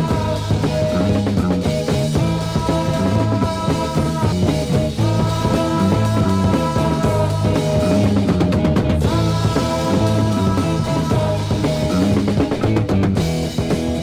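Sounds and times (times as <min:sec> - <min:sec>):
psychedelic rock instrumental: 0:00.0 - 0:14.0.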